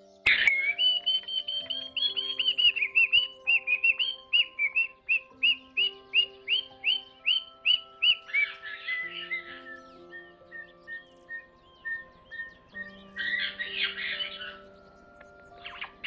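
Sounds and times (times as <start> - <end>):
calm background music: 0.0 - 16.0
soft twittering: 0.0 - 16.0.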